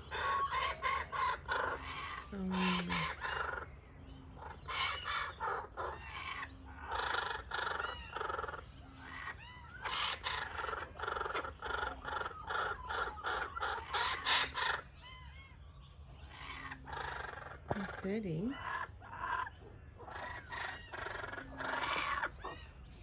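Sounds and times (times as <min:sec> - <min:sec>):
kookaburras cackling: 0:00.0 - 0:23.0.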